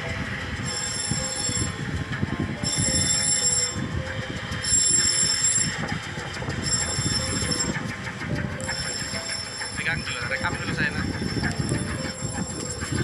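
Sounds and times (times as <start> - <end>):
boat engine rumble: 0.0 - 13.0
high-pitched tone: 0.0 - 13.0.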